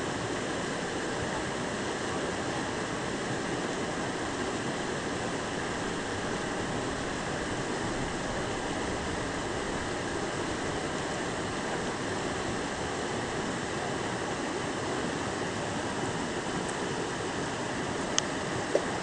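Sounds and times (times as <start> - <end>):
stream water flowing over rocks: 0.0 - 19.0.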